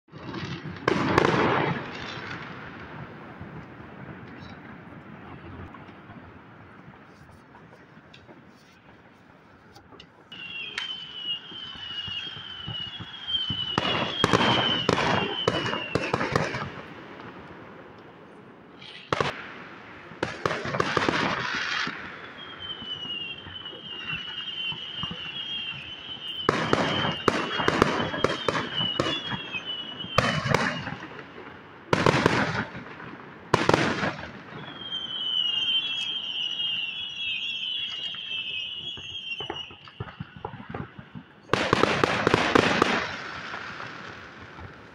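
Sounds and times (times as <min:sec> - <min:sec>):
fireworks bangs and crackles: 0:00.1 - 0:44.9.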